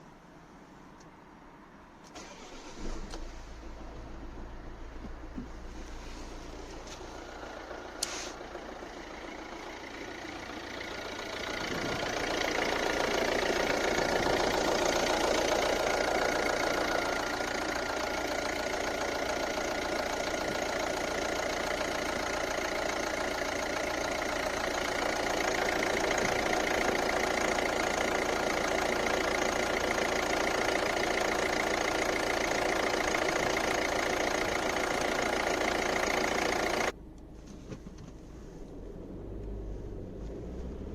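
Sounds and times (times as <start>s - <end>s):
diesel engine idling: 2.2s - 37.4s.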